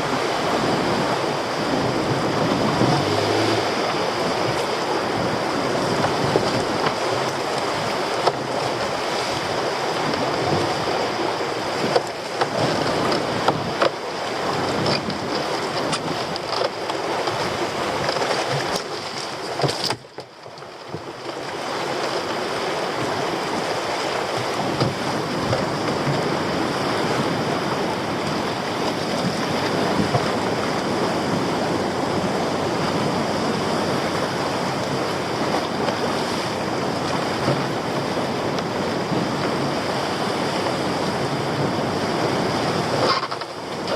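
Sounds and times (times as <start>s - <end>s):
wind buffeting microphone: 0.0s - 20.0s, 22.3s - 43.9s
surf breaking: 0.0s - 43.9s.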